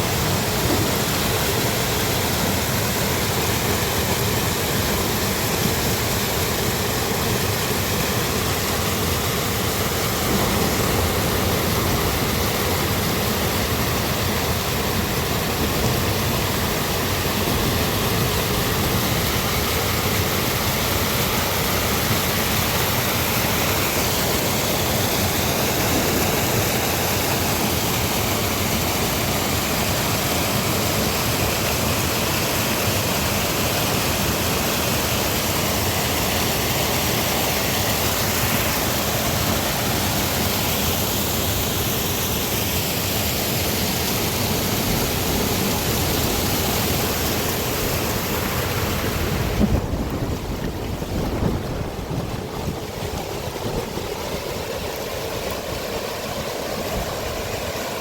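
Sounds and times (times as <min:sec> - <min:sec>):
heavy rain and rushing floodwater: 0:00.0 - 0:58.0.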